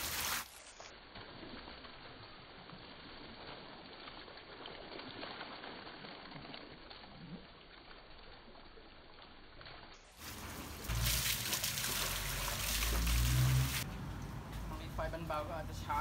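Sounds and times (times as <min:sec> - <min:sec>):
noodles rinsed by hand in water: 0:00.0 - 0:13.9
water splashing and trickling: 0:00.0 - 0:16.0.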